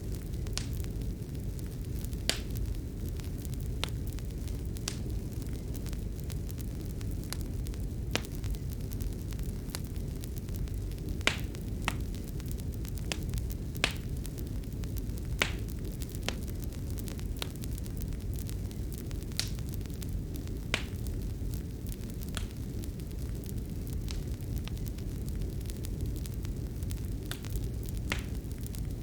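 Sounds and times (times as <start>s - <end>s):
fire crackling in fireplace: 0.0s - 29.0s
fire popping: 0.0s - 29.0s.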